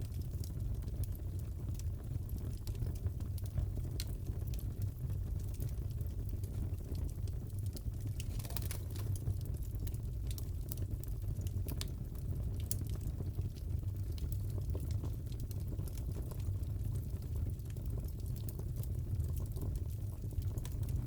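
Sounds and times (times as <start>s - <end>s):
fire burning: 0.0s - 21.0s
fire popping and snapping: 0.0s - 21.0s.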